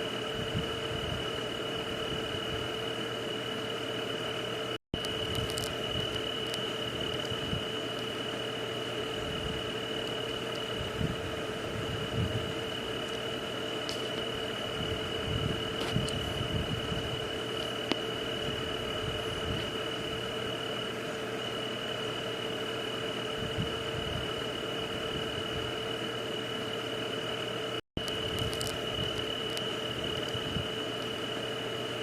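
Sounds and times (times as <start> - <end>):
high insect drone: 0.0 - 32.0
low steady hum: 0.0 - 32.0.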